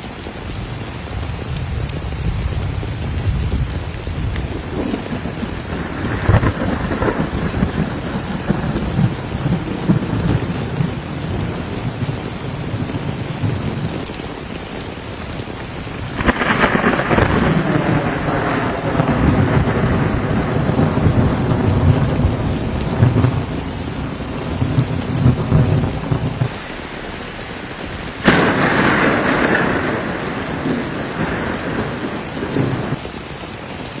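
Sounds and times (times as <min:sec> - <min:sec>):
heavy rain: 0:00.0 - 0:34.0
thunder cracking and rolling: 0:01.2 - 0:14.4, 0:15.2 - 0:33.0.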